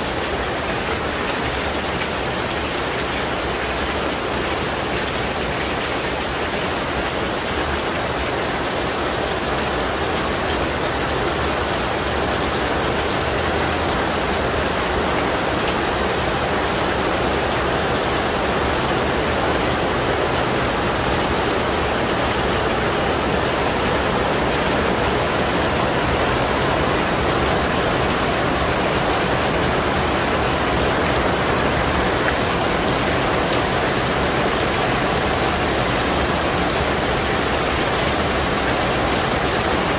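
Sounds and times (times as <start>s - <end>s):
heavy rain on pavement and roof: 0.0s - 39.9s
water pouring off roof edge: 0.1s - 39.9s.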